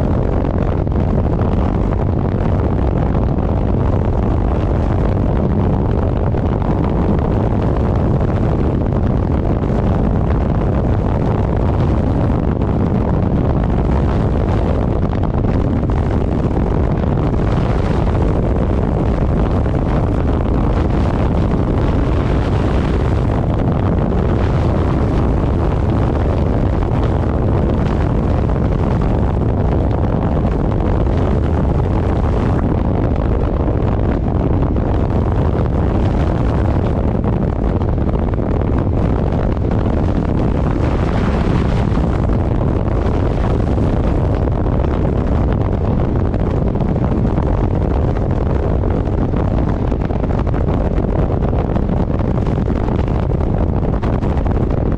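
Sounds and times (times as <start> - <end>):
wind rush on microphone: 0.0 - 54.9.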